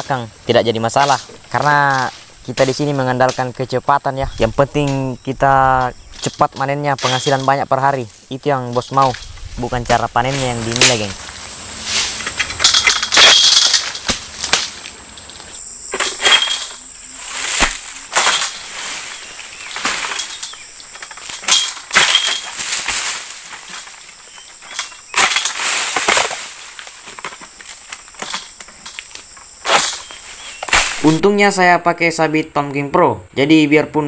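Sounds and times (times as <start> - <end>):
palm leaves rustling and cracking: 0.0 - 31.2.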